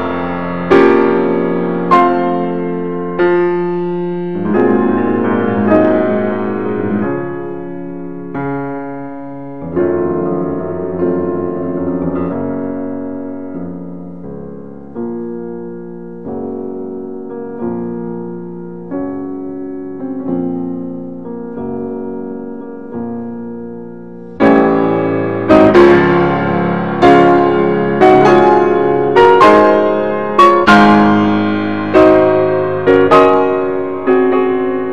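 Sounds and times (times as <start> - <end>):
slow piano chords: 0.0 - 34.9.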